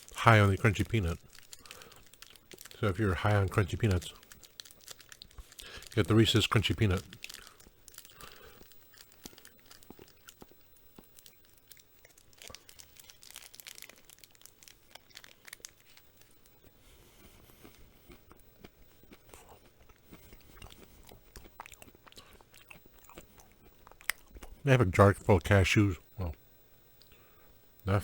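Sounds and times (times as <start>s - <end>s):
chewing and crunching candy: 0.0s - 25.6s.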